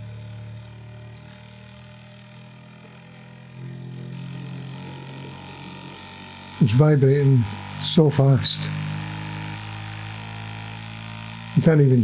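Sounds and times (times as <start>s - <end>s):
printer motors humming: 0.0s - 12.0s.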